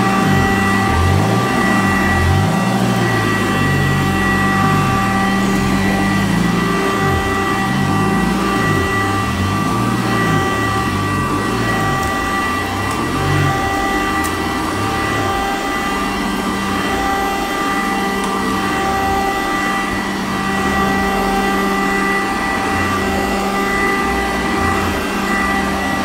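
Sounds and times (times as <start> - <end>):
vacuum cleaner on carpet: 0.0 - 26.0.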